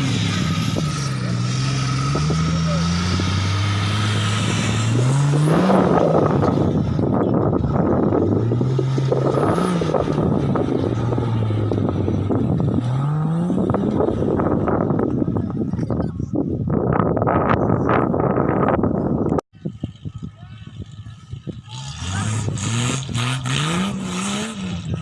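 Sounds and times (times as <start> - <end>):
off-road engine revving: 0.0 - 16.1, 19.7 - 25.0.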